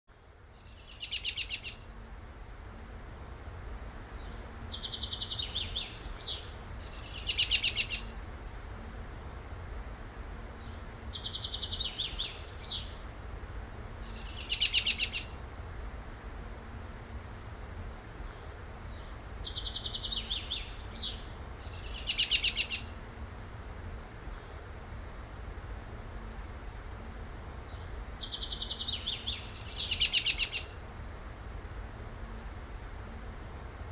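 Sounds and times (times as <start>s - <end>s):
birdsong: 0.1s - 17.4s, 18.1s - 23.5s, 24.2s - 33.9s
insect trill: 0.1s - 33.9s.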